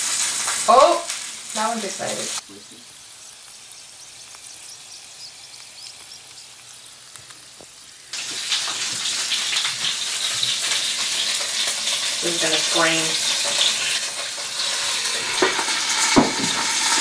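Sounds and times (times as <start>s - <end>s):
dumplings sizzling in oil: 0.0s - 17.0s.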